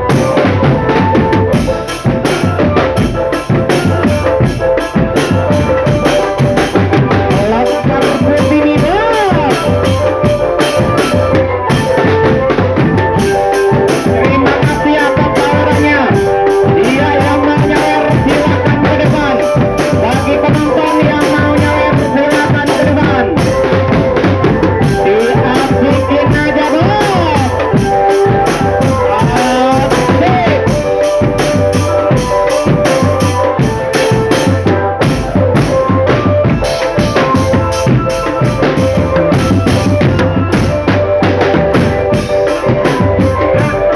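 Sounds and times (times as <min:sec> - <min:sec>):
marching drum band playing: 0:00.0 - 0:43.9
melody over drums: 0:00.0 - 0:43.9.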